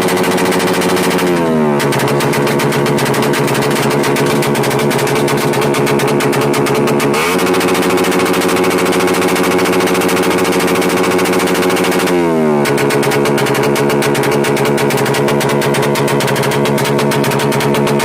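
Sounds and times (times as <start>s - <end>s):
motorcycle engine revving: 0.0s - 18.0s
popping exhaust: 0.0s - 18.0s.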